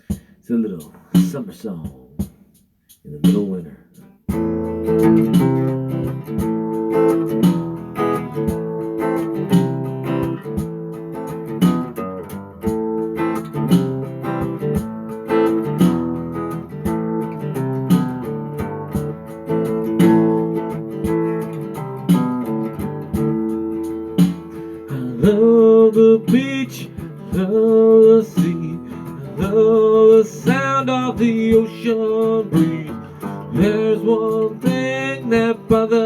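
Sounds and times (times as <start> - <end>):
guitar strummed: 0.0 - 36.0.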